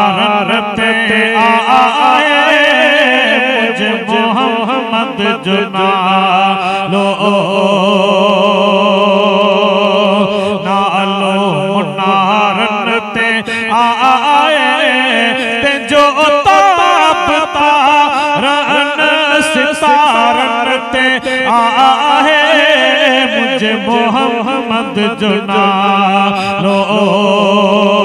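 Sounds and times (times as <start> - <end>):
man singing devotional song: 0.0 - 28.0.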